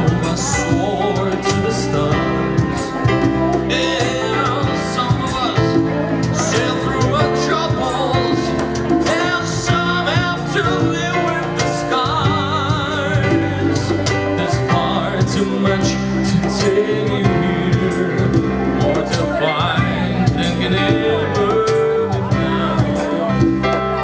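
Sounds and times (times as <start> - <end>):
live band playing: 0.0 - 24.0
person singing: 0.0 - 24.0.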